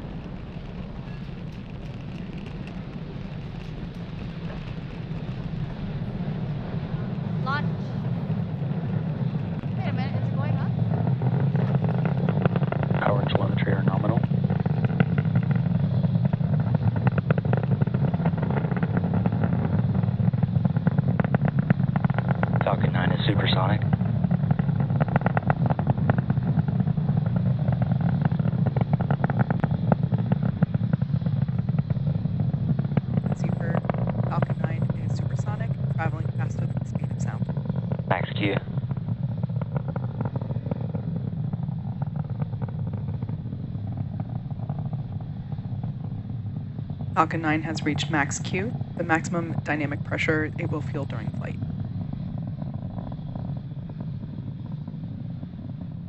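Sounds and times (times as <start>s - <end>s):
rocket engines rumbling and crackling: 0.0s - 56.0s.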